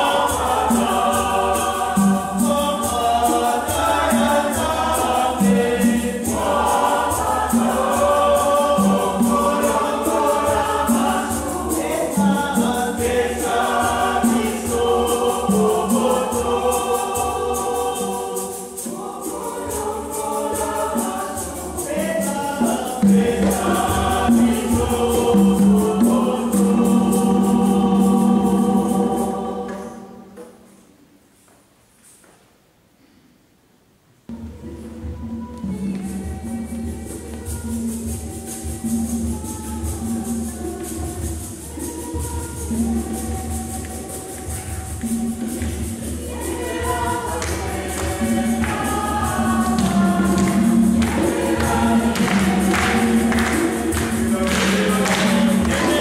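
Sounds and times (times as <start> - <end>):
choir singing gospel song: 0.0 - 30.8, 34.3 - 56.0
conga drums: 0.0 - 30.8, 34.3 - 56.0
shaker rattling: 0.0 - 30.8, 34.3 - 56.0.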